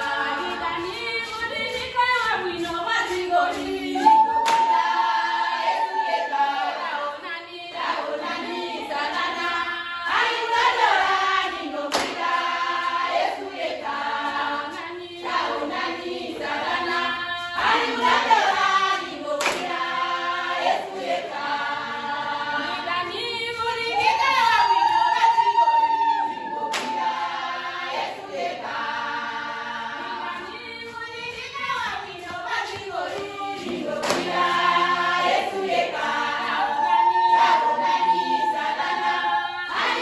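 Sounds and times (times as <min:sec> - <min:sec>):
hand clapping: 0:00.0 - 0:06.3, 0:10.1 - 0:25.6, 0:26.3 - 0:37.0
women singing unaccompanied: 0:00.0 - 0:40.0.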